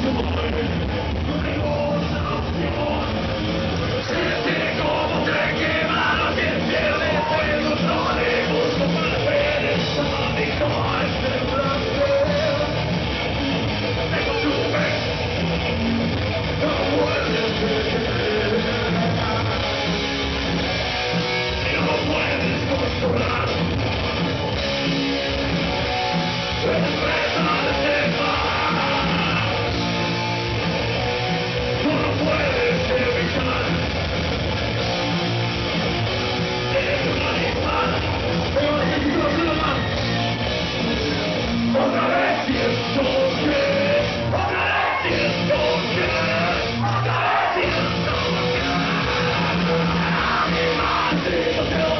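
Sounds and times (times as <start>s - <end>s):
heavy rock band playing: 0.0s - 51.9s.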